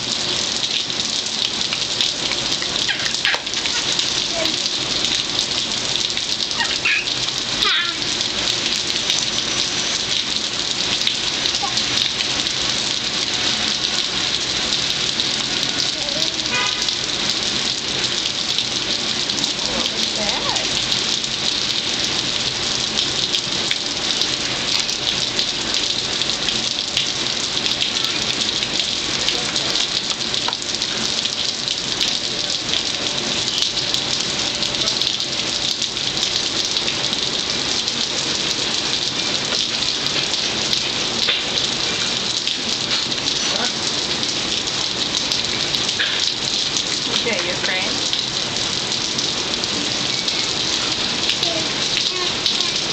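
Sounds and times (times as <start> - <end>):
rain on hard surfaces: 0.0 - 52.9.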